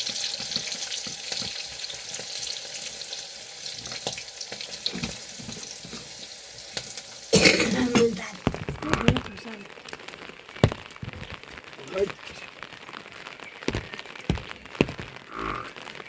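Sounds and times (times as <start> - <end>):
water running and splashing: 0.0 - 16.0.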